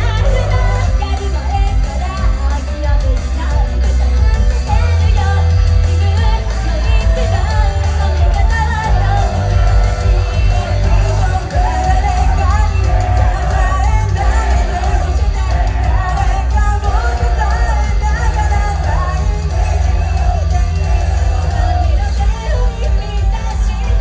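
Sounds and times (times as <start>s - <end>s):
heavy steady bass line: 0.0s - 24.0s
live pop band music: 0.0s - 24.0s
person singing lead vocal: 0.0s - 24.0s.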